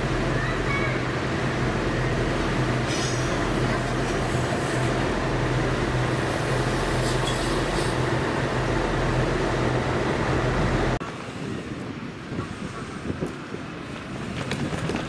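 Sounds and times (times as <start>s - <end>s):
open-air background: 0.0s - 15.0s
train rushing noise: 0.0s - 15.0s.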